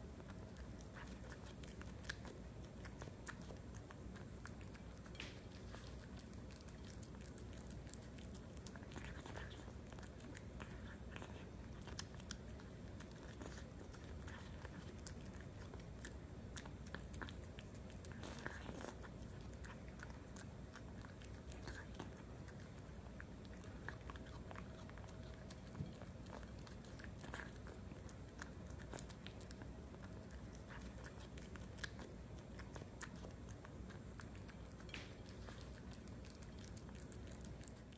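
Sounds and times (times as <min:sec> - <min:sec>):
cat chewing and licking: 0:00.0 - 0:37.9.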